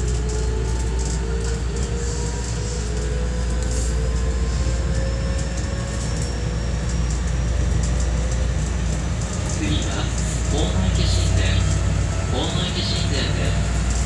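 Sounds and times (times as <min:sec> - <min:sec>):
train wheel and track rumble: 0:00.0 - 0:14.0.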